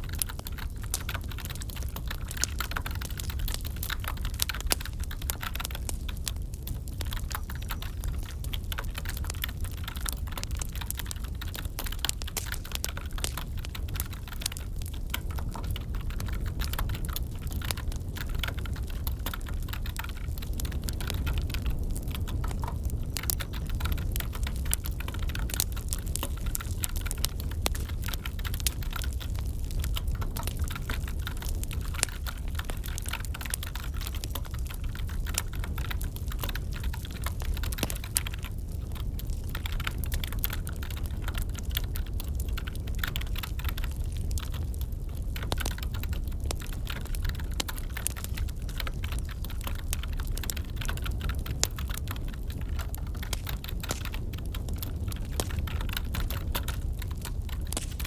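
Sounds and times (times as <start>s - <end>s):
wood fire crackling: 0.0s - 58.0s
computer keyboard typing: 0.1s - 58.0s.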